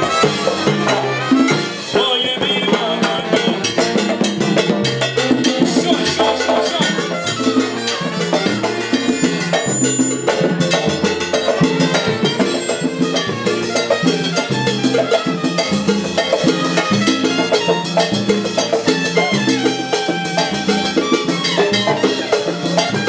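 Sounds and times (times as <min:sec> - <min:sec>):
latin percussion: 0:00.0 - 0:23.0
salsa band playing: 0:00.0 - 0:23.0
trumpet: 0:00.0 - 0:23.0.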